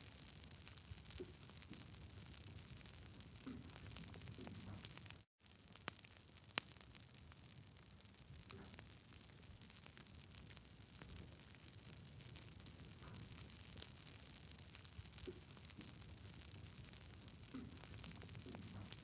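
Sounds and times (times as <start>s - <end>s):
campfire crackling and popping: 0.0s - 19.0s
low fire hiss: 0.0s - 19.0s.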